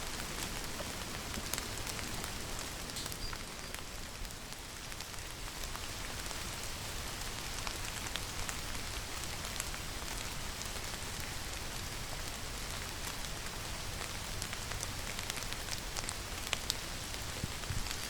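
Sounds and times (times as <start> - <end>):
rain hissing and ticking: 0.0 - 18.0.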